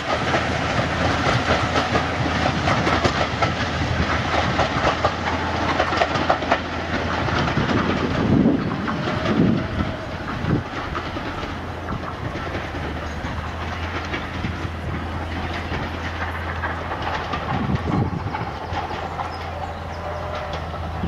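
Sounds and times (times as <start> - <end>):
train wheels clicking over rail joints: 0.0 - 21.0.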